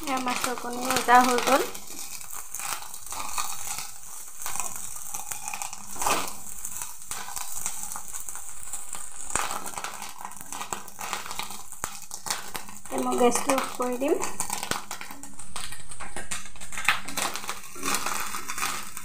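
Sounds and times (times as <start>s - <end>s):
fish roe sizzling in oil: 0.0s - 19.0s.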